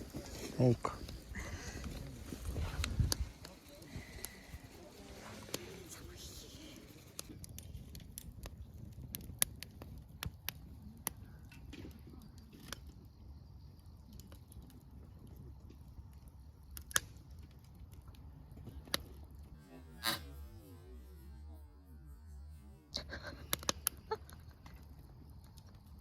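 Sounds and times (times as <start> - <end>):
campfire crackling and popping: 0.0 - 21.6, 22.3 - 26.0.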